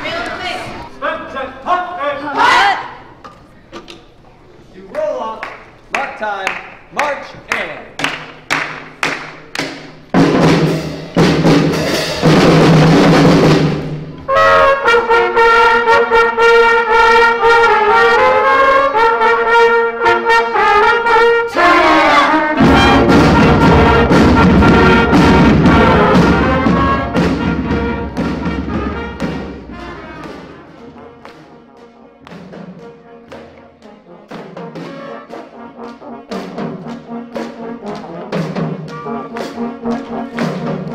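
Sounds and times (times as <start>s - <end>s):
marching band brass and drums: 6.6s - 40.9s.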